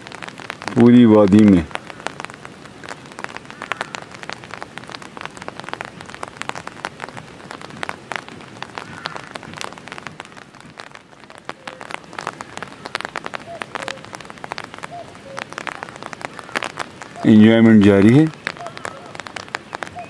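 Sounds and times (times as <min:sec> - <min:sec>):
rain hiss: 0:00.0 - 0:20.0
raindrops pattering: 0:00.0 - 0:20.0.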